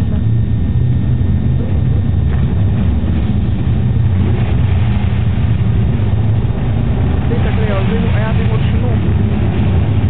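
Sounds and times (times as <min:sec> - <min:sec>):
car engine droning: 0:00.0 - 0:10.0.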